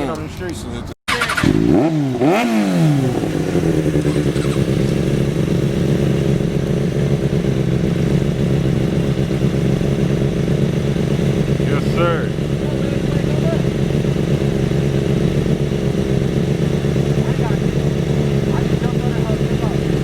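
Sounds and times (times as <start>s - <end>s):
motorcycle engine revving: 1.1s - 20.0s.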